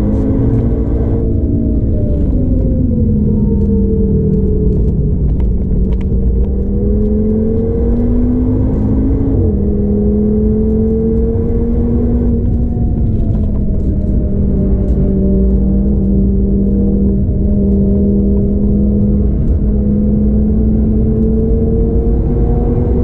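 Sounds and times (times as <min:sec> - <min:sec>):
car engine rumbling inside cabin: 0:00.0 - 0:23.0.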